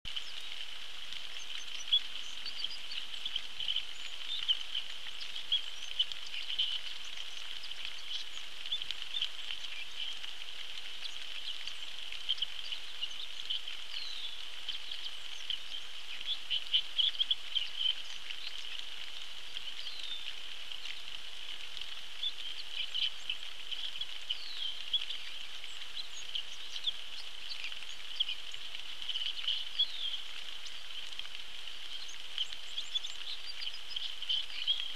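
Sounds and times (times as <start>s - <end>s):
rain falling on a pond: 0.0s - 34.9s
water drips: 0.1s - 34.9s.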